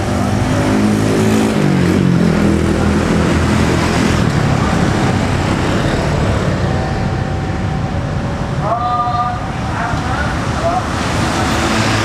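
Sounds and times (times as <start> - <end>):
locomotive engine passing: 0.0 - 12.0
train coaches rumbling on rails: 0.0 - 12.0.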